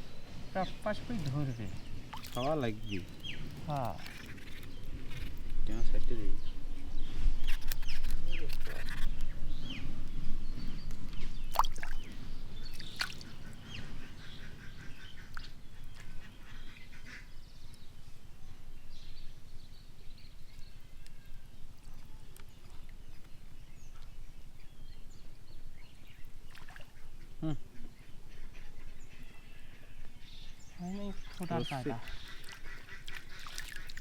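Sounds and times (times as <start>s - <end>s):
birds calling: 0.0s - 18.2s, 18.8s - 34.0s
low outdoor background: 0.0s - 34.0s.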